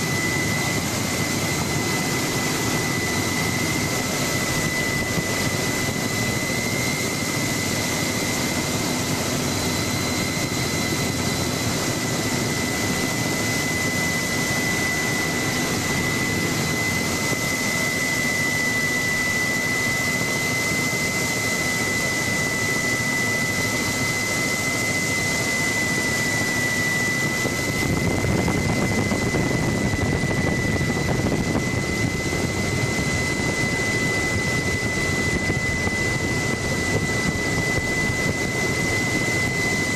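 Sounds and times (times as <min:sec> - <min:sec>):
helicopter engine and rotor noise: 0:00.0 - 0:39.9
turbine whine: 0:00.0 - 0:39.9.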